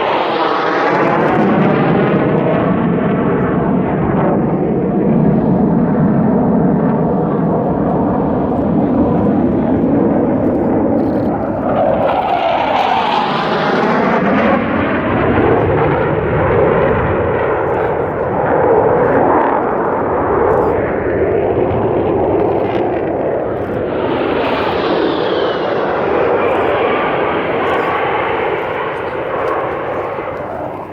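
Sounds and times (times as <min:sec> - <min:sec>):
jet roar passing: 0:00.0 - 0:30.9.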